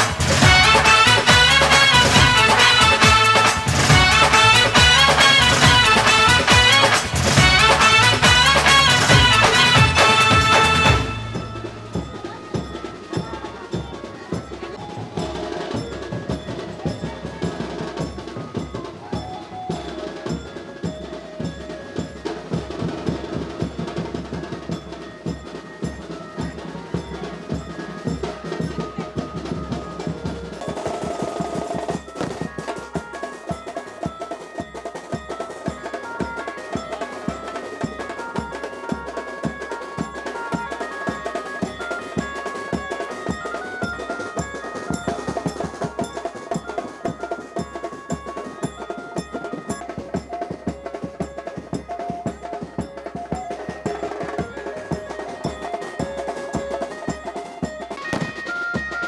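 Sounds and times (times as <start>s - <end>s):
instrumental music with fast drumming: 0.0s - 59.0s.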